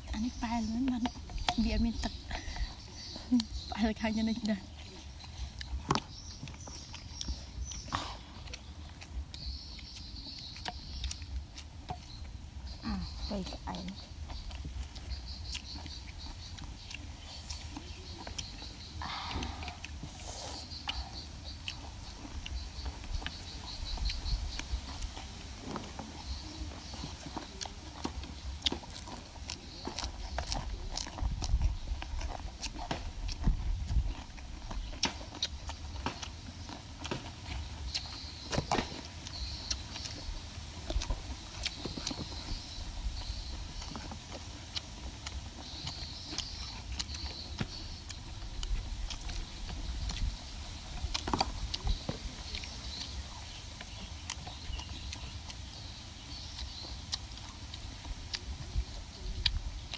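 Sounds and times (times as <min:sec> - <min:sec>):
chewing crunchy salad: 0:00.0 - 0:59.9.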